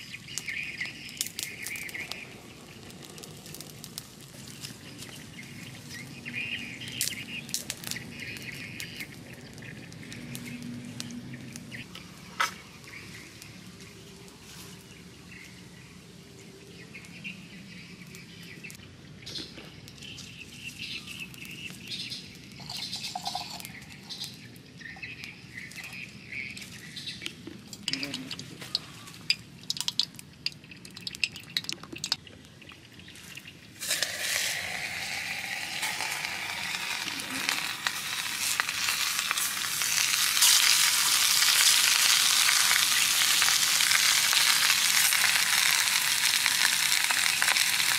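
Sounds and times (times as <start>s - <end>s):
birds chirping: 0.0s - 3.8s, 4.4s - 44.0s
wood fire crackling: 0.0s - 16.0s, 16.6s - 47.9s.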